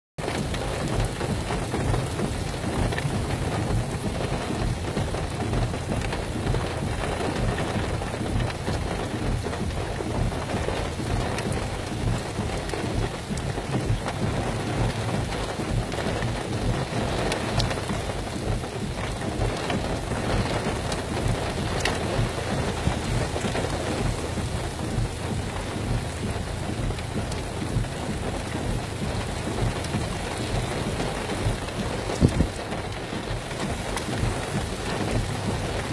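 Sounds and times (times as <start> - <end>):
wind buffeting microphone: 0.4 - 35.9.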